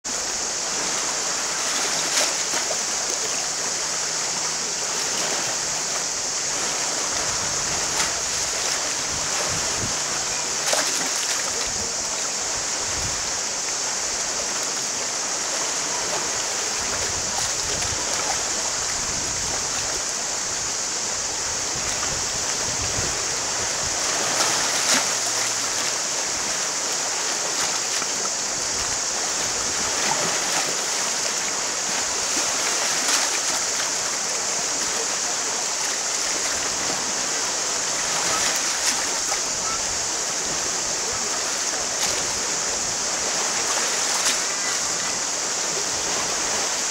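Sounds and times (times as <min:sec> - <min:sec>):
sea waves on pebbles: 0:00.0 - 0:46.9
high hiss: 0:00.1 - 0:46.9.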